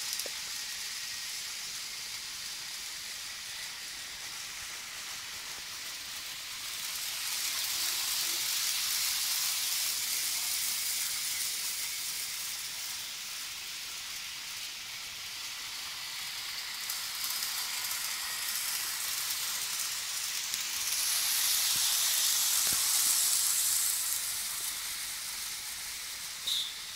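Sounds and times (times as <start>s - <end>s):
model train wheels whirring: 0.0s - 26.9s.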